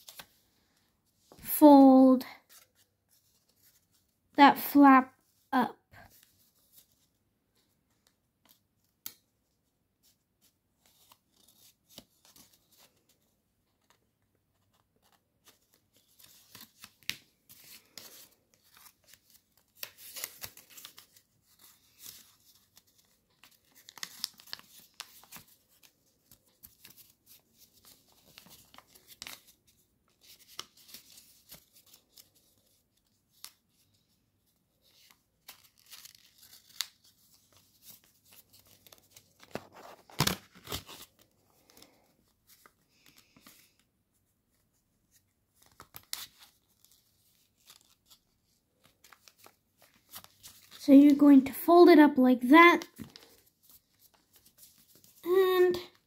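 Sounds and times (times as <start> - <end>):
paper crinkling and rustling: 0.0 - 1.4, 2.2 - 4.2, 6.0 - 51.5, 52.8 - 56.0.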